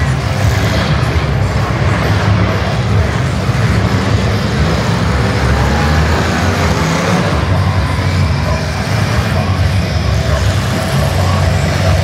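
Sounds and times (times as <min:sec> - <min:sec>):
car engines roaring: 0:00.0 - 0:12.0.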